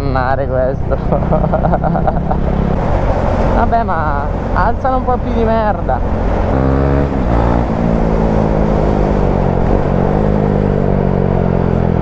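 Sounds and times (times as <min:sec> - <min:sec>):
motorcycle engine running: 0:00.0 - 0:12.0
rush of air and road: 0:00.8 - 0:12.0.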